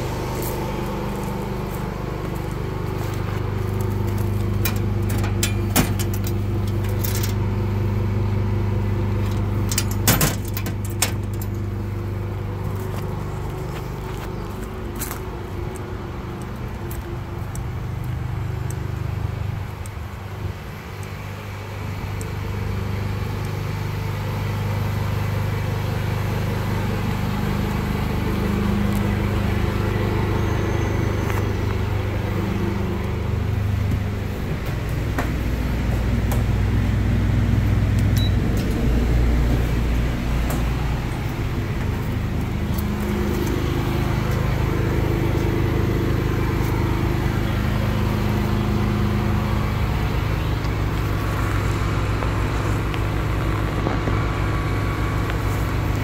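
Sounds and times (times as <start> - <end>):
engine rumbling: 0.0 - 56.0.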